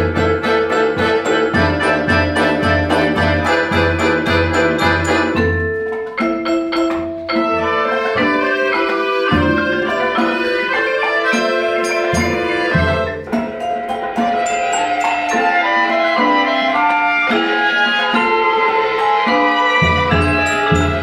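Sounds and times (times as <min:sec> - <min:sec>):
woodwinds accordion and marimba ensemble: 0:00.0 - 0:21.0.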